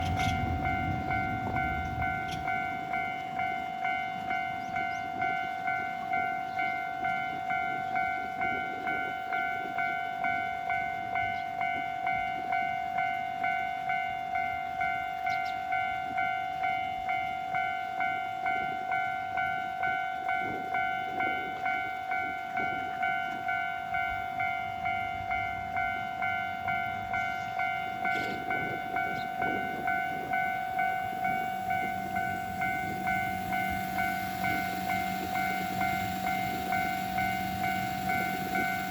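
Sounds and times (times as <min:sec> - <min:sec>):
level crossing warning bell ringing: 0:00.0 - 0:38.9.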